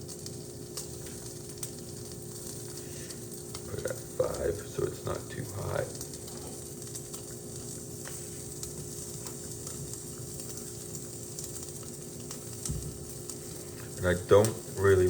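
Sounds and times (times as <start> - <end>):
faint steady hum: 0.0 - 15.0
food sizzling in a frying pan: 0.0 - 15.0.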